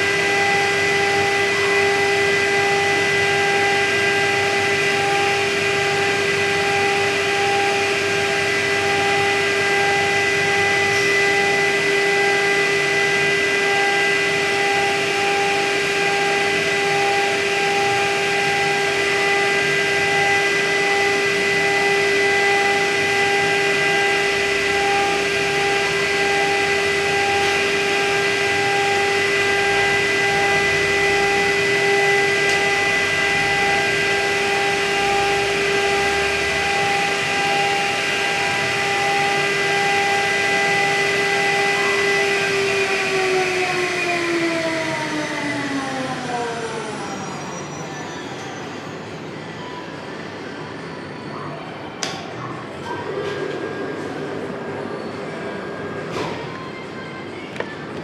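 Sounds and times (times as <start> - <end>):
router spindle whine: 0.0 - 51.2.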